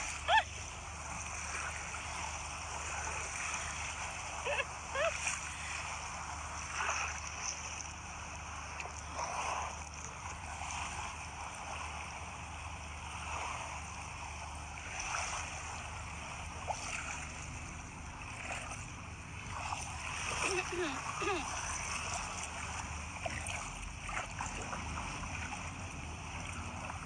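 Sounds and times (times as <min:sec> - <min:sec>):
seawater washing over rocks: 0:00.0 - 0:27.0.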